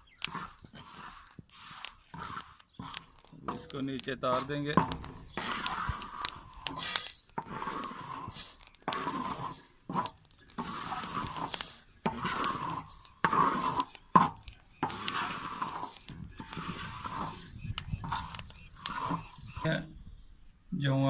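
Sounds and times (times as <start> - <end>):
grains scraped in a metal pan: 0.0 - 20.0.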